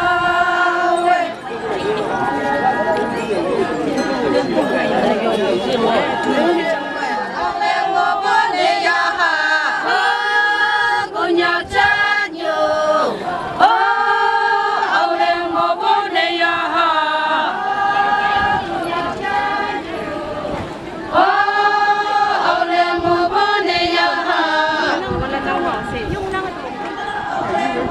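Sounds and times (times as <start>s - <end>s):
women singing in unison: 0.0s - 3.1s, 5.8s - 27.9s.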